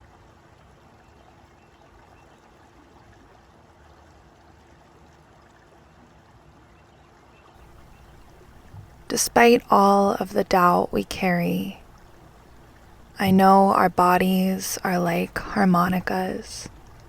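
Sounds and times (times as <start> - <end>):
faint flowing water: 0.0 - 17.0.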